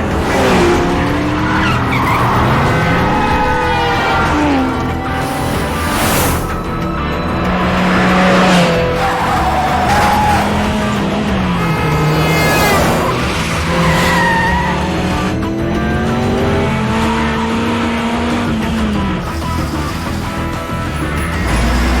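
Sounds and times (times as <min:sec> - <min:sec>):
car engine revving: 0:00.0 - 0:22.0
dramatic background music: 0:00.0 - 0:22.0
tyres squealing: 0:00.0 - 0:22.0.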